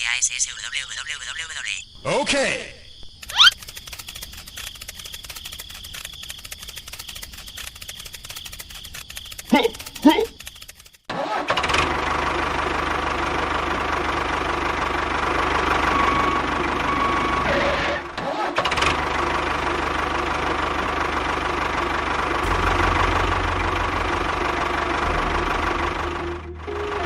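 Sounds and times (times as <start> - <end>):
small motor chugging: 3.2 - 17.6, 18.5 - 27.0.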